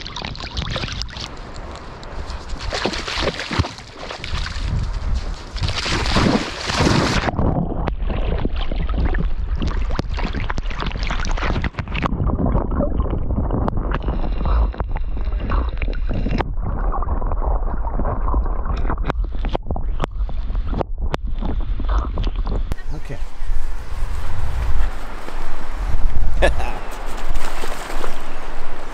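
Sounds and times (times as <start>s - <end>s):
water sloshing and splashing: 0.0s - 20.5s, 23.3s - 28.9s.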